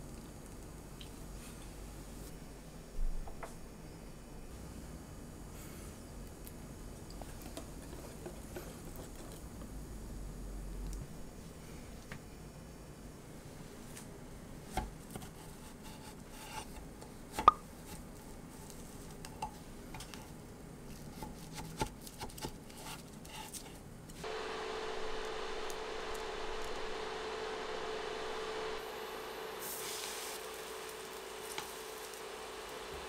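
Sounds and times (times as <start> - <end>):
electric hob hiss and hum: 0.0 - 21.0, 23.8 - 33.0.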